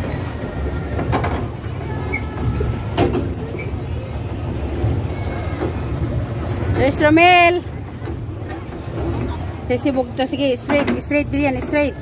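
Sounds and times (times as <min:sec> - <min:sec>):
boat rumbling on water: 0:00.0 - 0:12.0.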